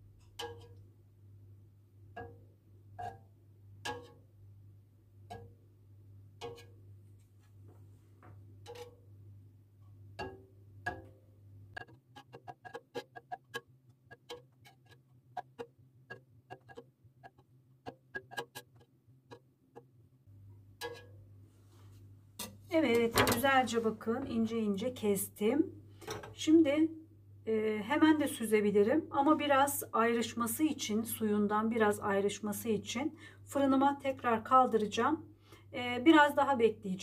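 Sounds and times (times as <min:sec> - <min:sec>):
low steady hum: 0:00.0 - 0:12.1, 0:19.0 - 0:37.0.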